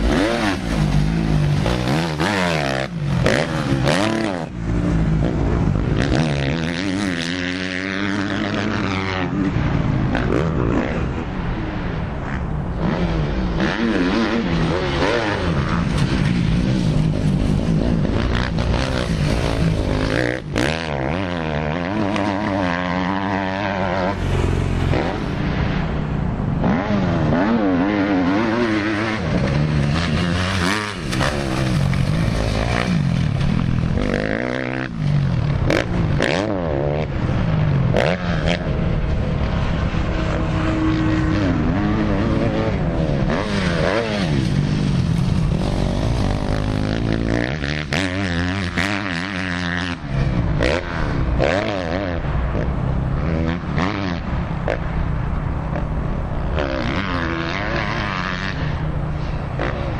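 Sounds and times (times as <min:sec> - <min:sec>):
motorbike engines revving: 0:00.0 - 0:59.9.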